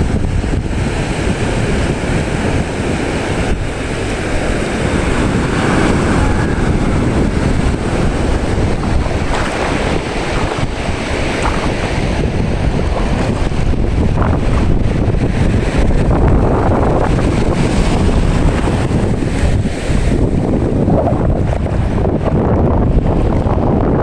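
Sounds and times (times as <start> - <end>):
surf washing onto beach: 0.0 - 23.9
wind rumbling on microphone: 0.0 - 24.0.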